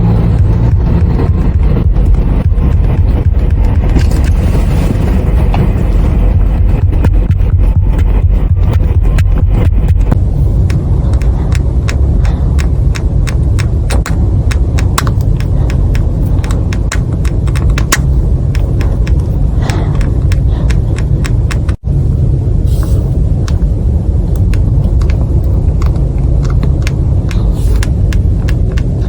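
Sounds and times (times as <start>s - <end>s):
road rumble inside vehicle: 0.0s - 29.0s
sharp clicking ticks: 0.1s - 4.3s, 6.4s - 21.8s, 24.3s - 29.0s.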